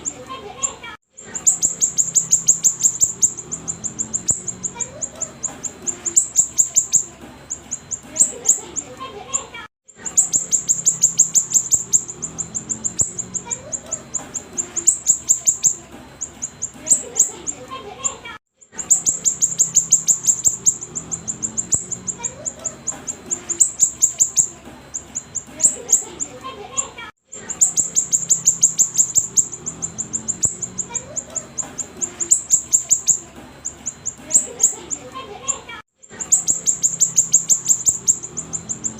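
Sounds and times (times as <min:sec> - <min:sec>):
songbird singing sharp high chips: 0:01.3 - 0:08.8, 0:10.1 - 0:17.6, 0:18.8 - 0:26.3, 0:27.5 - 0:35.0, 0:36.1 - 0:38.9.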